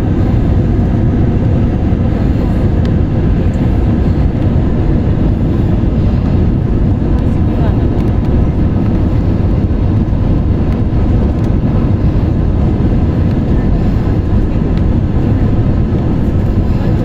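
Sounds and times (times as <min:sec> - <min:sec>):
jet engine and airflow rumble: 0:00.0 - 0:17.0.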